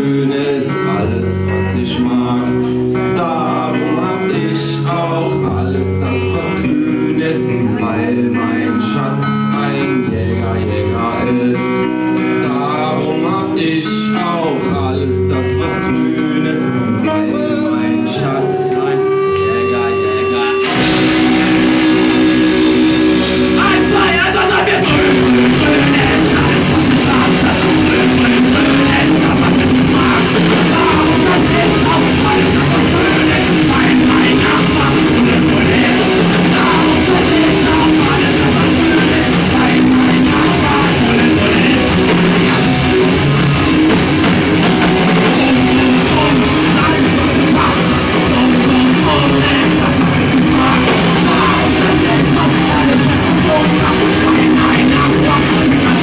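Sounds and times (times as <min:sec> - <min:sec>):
person singing into a microphone: 0:00.0 - 0:22.1, 0:23.1 - 0:56.0
rock band playing live: 0:00.0 - 0:56.0.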